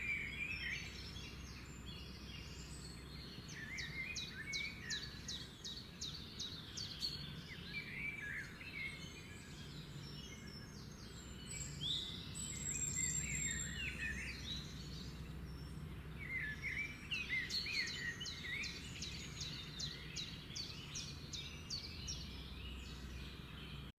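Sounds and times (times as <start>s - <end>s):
birds chirping and twittering: 0.0s - 23.9s.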